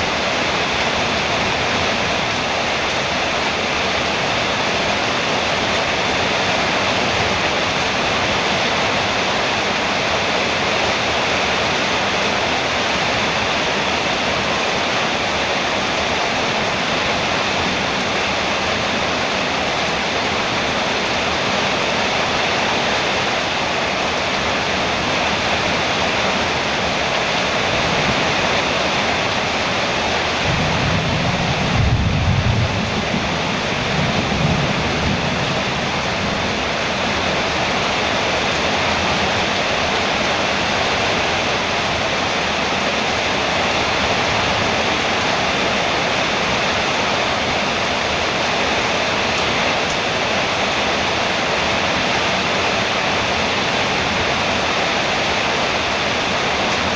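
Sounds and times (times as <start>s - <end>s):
heavy rain on a metal roof: 0.0s - 56.9s.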